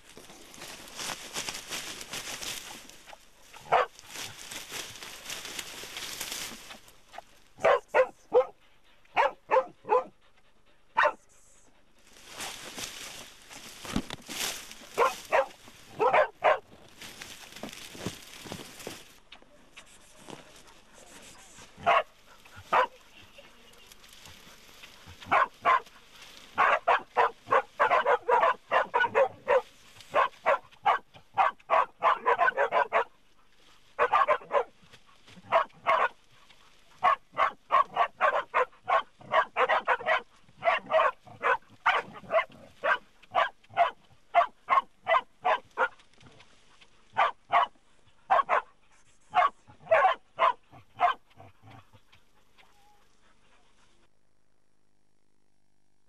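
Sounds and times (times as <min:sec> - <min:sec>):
dogs barking: 0:00.2 - 0:06.2, 0:07.1 - 0:11.4, 0:14.3 - 0:19.0, 0:20.5 - 0:53.6.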